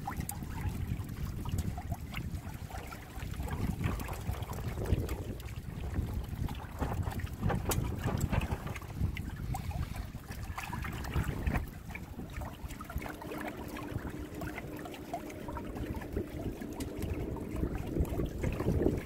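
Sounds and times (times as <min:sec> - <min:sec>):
water lapping along a hull: 0:00.0 - 0:19.0
low rumble: 0:00.5 - 0:19.0.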